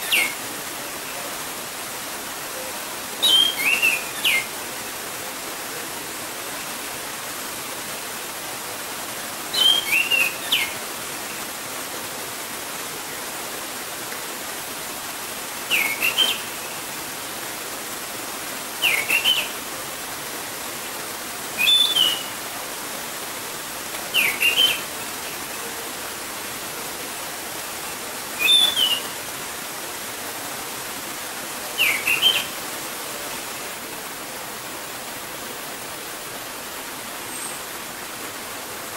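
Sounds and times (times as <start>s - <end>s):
gurgling stream: 0.0s - 38.9s.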